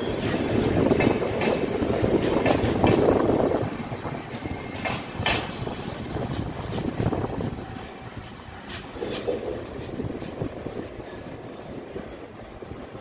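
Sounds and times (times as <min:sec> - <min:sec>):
train wheels clattering over rail joints: 0:00.0 - 0:11.6.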